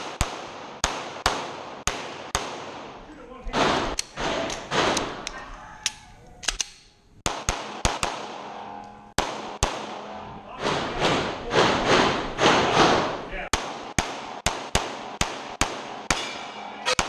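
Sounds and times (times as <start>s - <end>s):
pistol shots: 0.0s - 5.3s, 6.5s - 17.0s.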